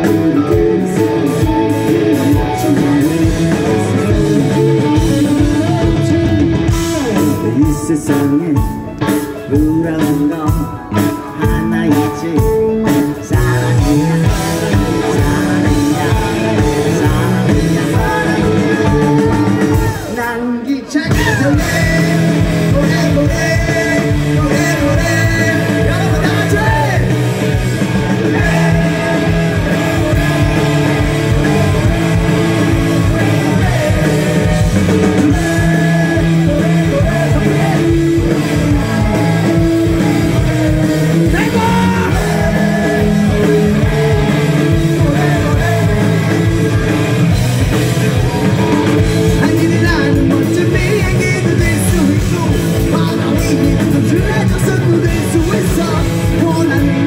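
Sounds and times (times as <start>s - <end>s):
driving drum beat: 0.0s - 20.4s, 21.1s - 57.0s
person singing: 0.0s - 57.0s
punk rock band playing live: 0.0s - 57.0s.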